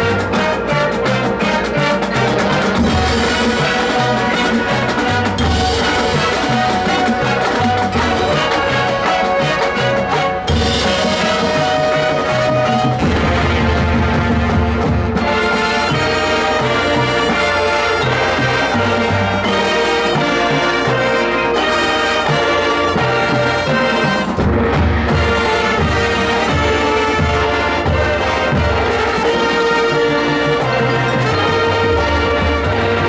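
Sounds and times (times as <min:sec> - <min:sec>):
marching band brass chords: 0:00.0 - 0:33.0.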